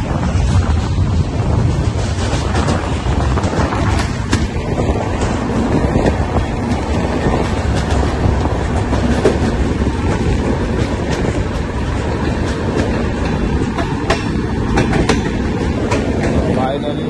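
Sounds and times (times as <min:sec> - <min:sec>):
train wheel and rail rumble: 0:00.0 - 0:17.0
wheels clicking over rail joints: 0:00.0 - 0:17.0.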